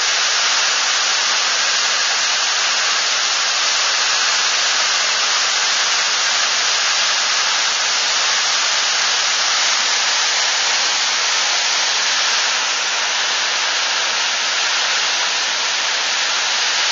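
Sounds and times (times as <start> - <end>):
water rushing from a dam: 0.0 - 16.9.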